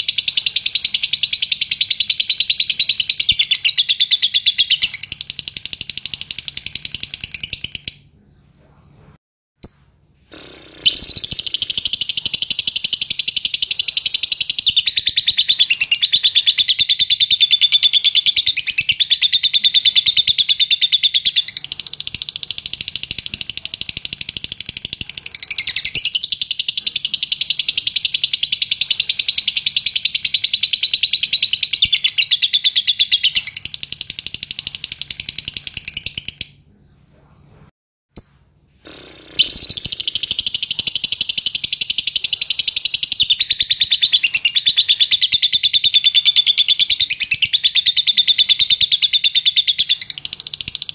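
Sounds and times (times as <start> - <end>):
lovebird chattering trill: 0.0 - 8.0, 9.6 - 36.5, 38.2 - 50.9.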